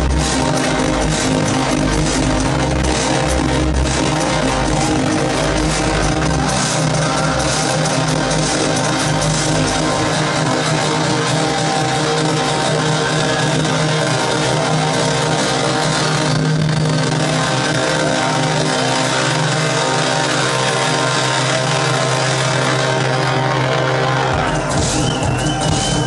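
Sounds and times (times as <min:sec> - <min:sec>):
electronic dance music: 0:00.0 - 0:26.0.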